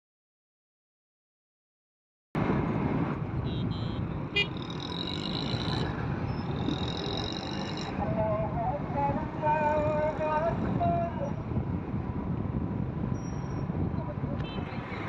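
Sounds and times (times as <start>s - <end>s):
street traffic noise: 2.4s - 15.0s.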